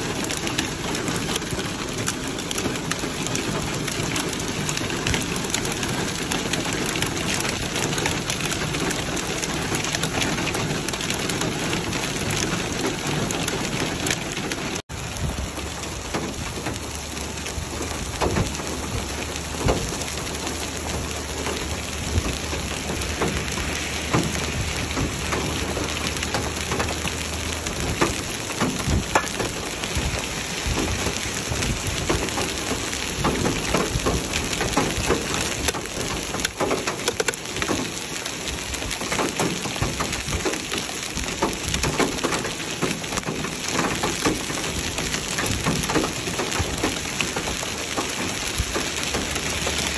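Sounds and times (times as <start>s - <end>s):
hail striking hard surfaces: 0.0s - 49.9s
heavy rain: 0.0s - 49.9s.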